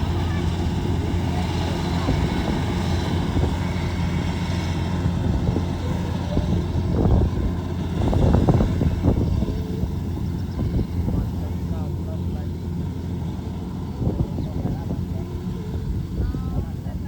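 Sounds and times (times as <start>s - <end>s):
harvesting machine engine running: 0.0s - 17.0s.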